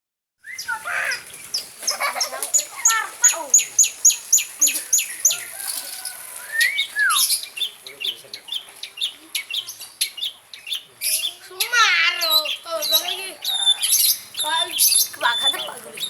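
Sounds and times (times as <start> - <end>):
bird chattering song: 0.4 - 16.0.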